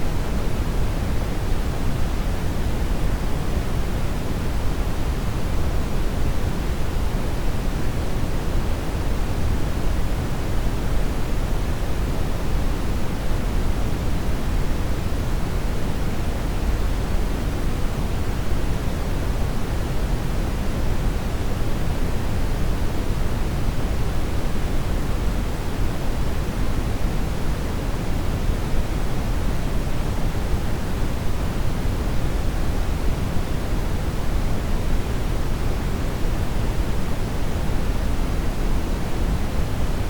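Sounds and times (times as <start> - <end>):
steady generated noise hiss: 0.0 - 40.0.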